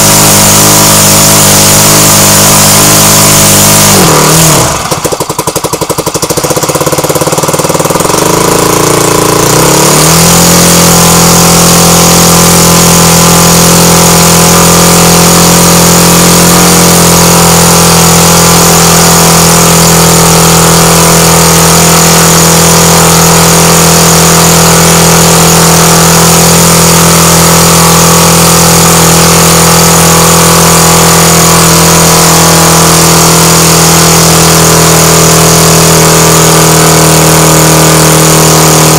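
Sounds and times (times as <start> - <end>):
model aircraft engine running: 0.0 - 38.9.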